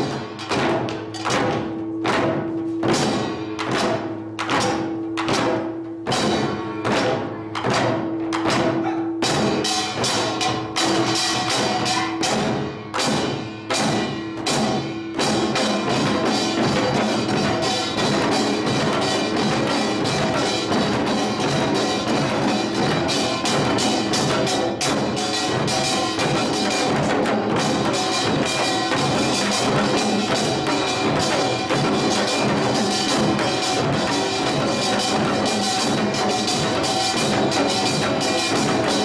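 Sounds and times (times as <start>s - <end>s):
gongs and drums playing: 0.0s - 39.0s.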